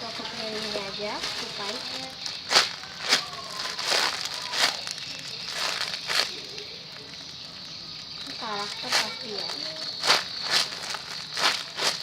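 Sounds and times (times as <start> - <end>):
plastic crinkling and rustling: 0.0 - 12.0.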